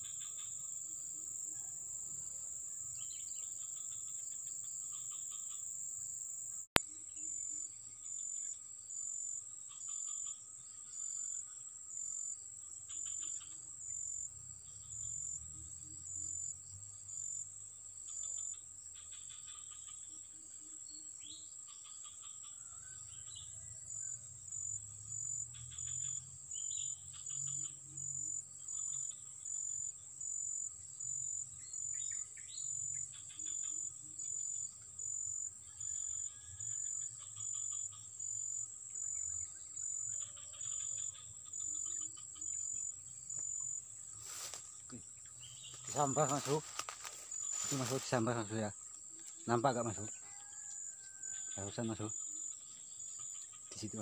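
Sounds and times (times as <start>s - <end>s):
insect chirps: 0.0s - 54.0s
insects buzzing drone: 0.0s - 54.0s.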